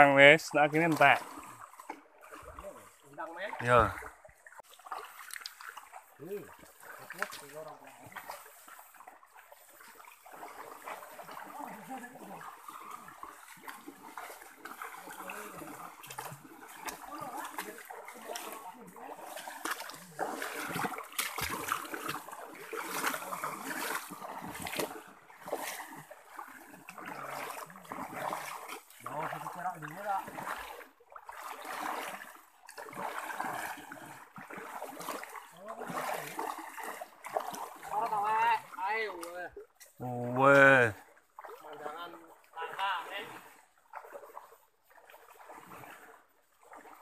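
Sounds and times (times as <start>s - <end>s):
feet wading through water: 0.0s - 47.0s.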